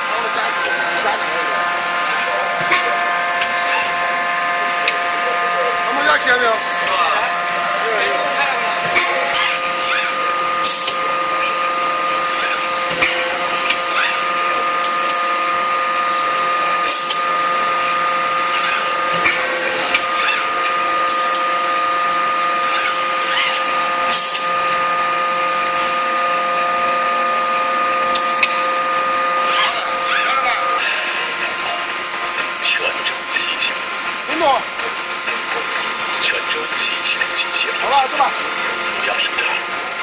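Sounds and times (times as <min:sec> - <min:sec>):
machinery whine: 0:00.0 - 0:40.0.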